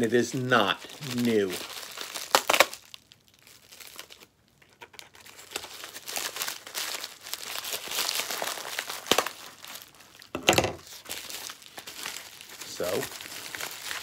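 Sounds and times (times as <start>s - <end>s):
packaging bag crinkling: 0.0s - 14.0s.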